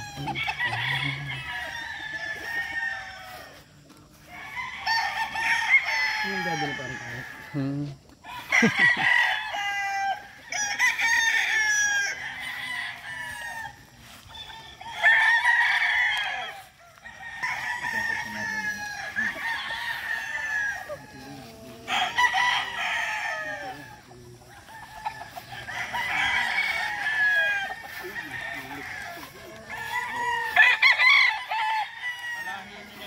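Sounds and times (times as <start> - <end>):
roosters crowing: 0.0 - 33.0.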